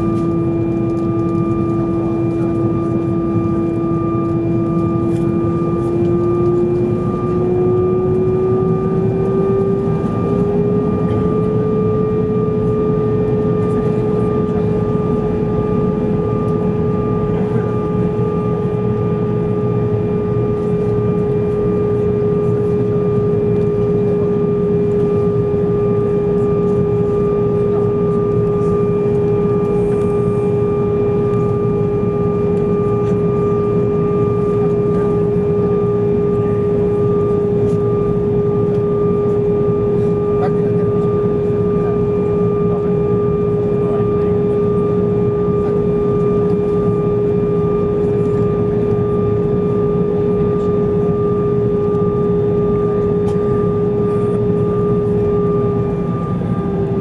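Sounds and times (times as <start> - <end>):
jet engines rumbling and whining: 0.0 - 57.0.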